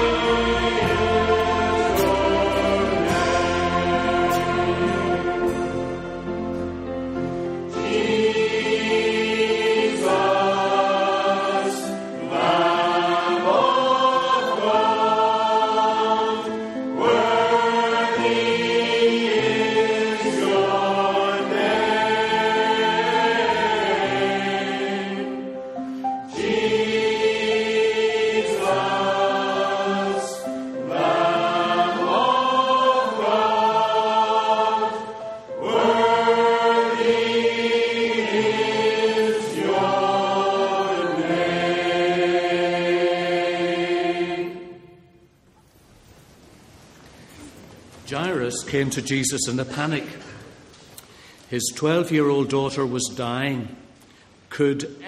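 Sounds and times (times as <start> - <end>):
church choir singing a hymn: 0.0 - 45.3, 47.3 - 50.4, 51.5 - 53.9.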